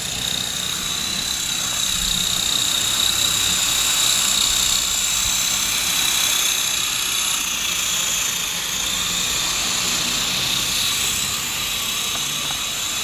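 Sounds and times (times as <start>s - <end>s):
rc helicopter high whine: 0.0s - 13.0s.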